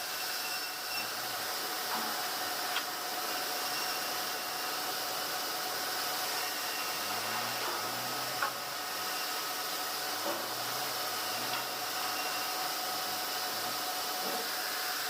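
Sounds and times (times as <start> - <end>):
sawmill machinery whining: 0.0 - 15.0.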